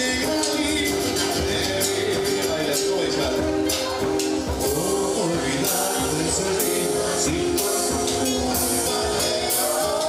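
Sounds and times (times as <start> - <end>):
band music: 0.0 - 10.0
percussion beat: 0.0 - 10.0.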